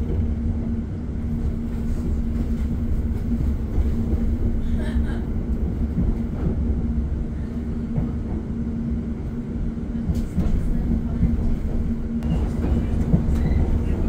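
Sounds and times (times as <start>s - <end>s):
constant hum: 0.0s - 14.0s
train interior rumble: 0.0s - 14.0s.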